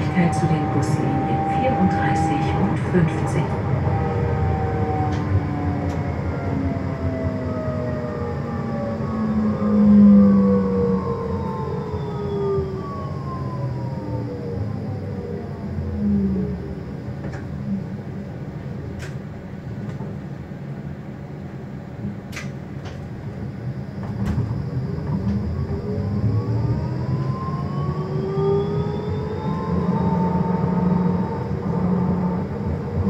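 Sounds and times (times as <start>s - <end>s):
tram motor whine: 0.0s - 33.0s.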